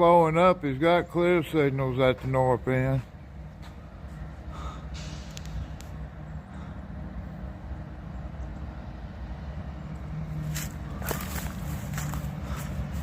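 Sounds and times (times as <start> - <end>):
locomotive engine rumble: 0.0 - 13.0.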